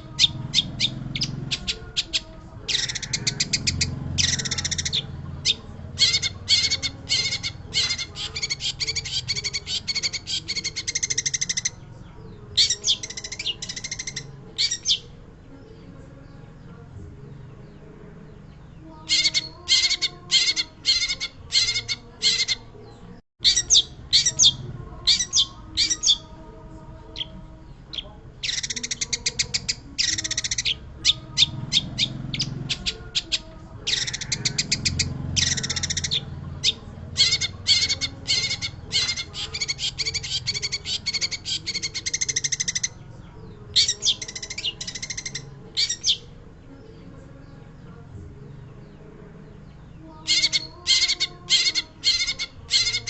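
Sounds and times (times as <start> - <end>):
bird harsh chattering song: 0.0 - 15.8, 17.6 - 26.4, 27.1 - 47.1, 48.6 - 53.0.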